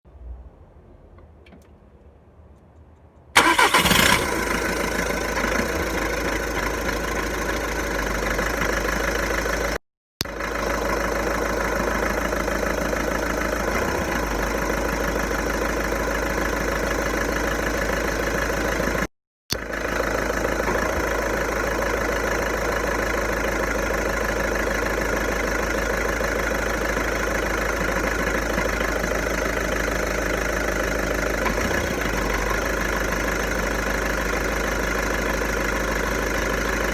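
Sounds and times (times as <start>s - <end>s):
diesel engine starting and idling: 3.4s - 36.9s.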